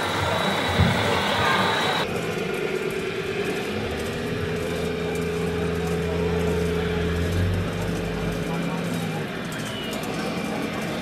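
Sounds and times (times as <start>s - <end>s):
toy excavator motor hum: 0.0s - 11.0s.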